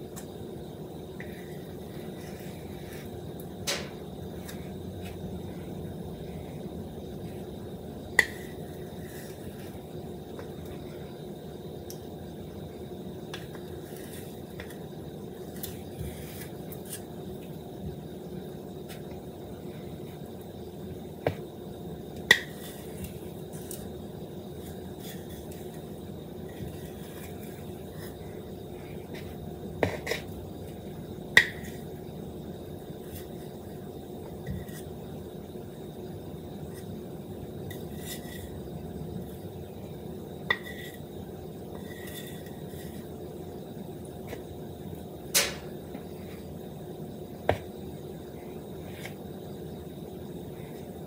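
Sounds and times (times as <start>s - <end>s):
low room hum: 0.0s - 51.0s.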